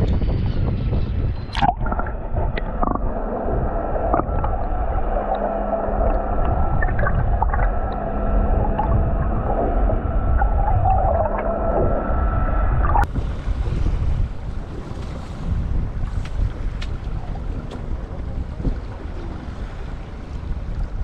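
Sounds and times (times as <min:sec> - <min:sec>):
muffled rumble of moving water: 0:00.0 - 0:21.0
steady low hum: 0:00.0 - 0:21.0.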